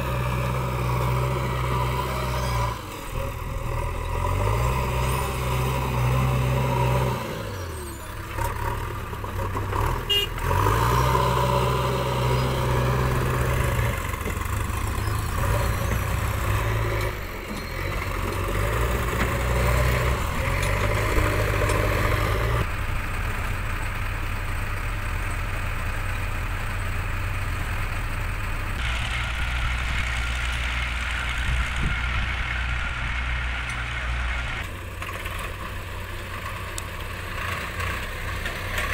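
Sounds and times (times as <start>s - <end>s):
diesel engine revving under load: 0.0s - 38.9s
tractor diesel engine running: 0.0s - 38.9s.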